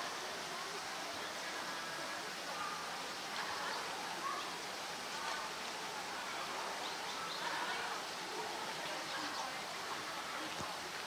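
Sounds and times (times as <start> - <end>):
distant crowd voices: 0.0 - 11.0
outdoor background noise: 0.0 - 11.0.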